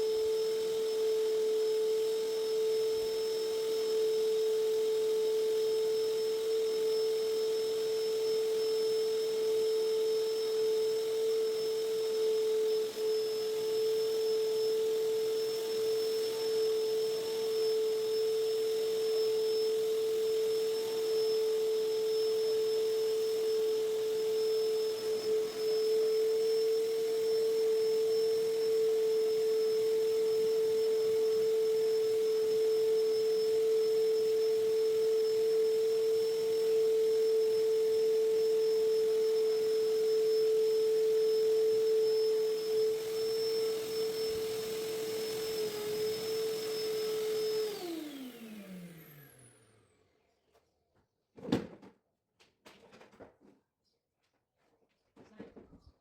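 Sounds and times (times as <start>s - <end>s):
vacuum cleaner running: 0.0s - 50.2s.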